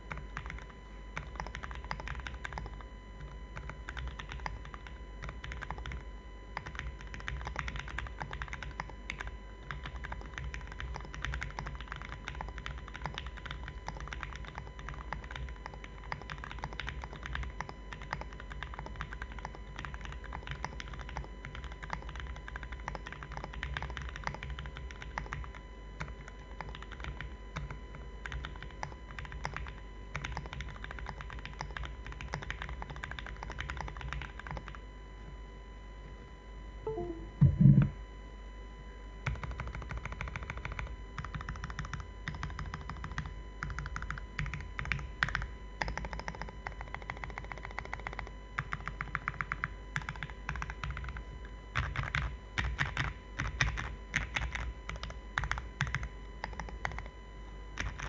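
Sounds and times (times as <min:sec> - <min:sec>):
mechanical keyboard typing: 0:00.1 - 0:34.8, 0:39.3 - 0:51.2, 0:51.8 - 0:57.1, 0:57.8 - 0:58.0.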